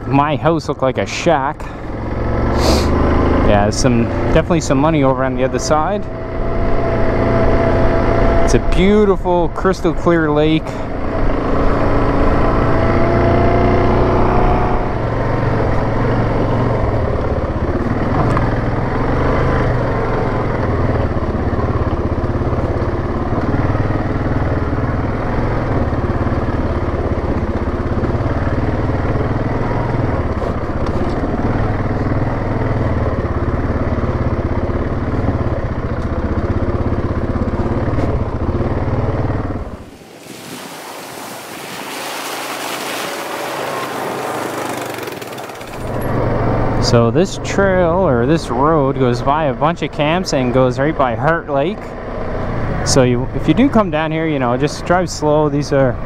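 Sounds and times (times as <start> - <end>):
atv engine revving: 0.0 - 39.9, 42.2 - 56.0.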